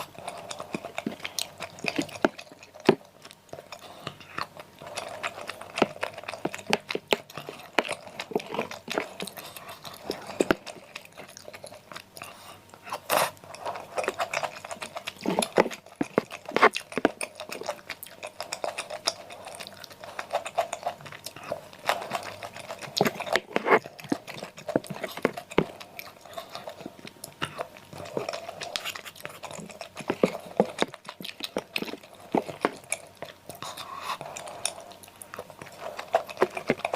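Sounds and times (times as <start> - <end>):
close-miked chewing and crunching: 0.0 - 36.9.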